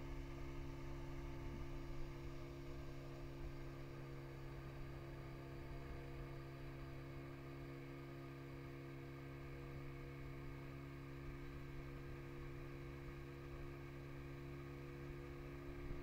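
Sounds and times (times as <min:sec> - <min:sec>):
motorboat engine hum: 0:00.0 - 0:16.0.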